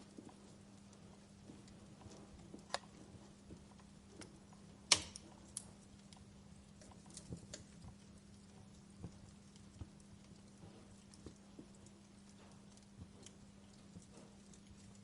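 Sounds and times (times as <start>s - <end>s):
faint steady hum: 0.0s - 15.0s
wood fire crackling: 0.0s - 15.0s.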